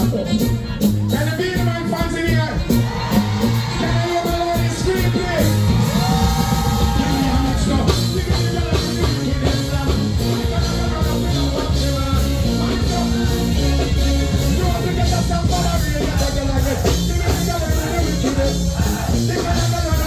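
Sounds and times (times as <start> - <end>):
live band playing dancehall: 0.0 - 20.0
person singing: 3.2 - 20.0.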